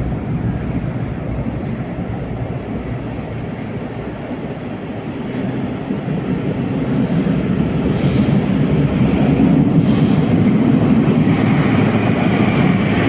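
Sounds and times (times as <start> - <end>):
metro train rumbling on rails: 0.0 - 13.0.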